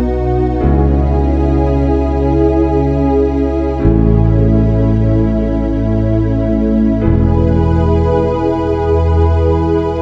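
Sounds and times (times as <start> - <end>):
slow melody: 0.0 - 10.0
soft sustained chords: 0.0 - 10.0.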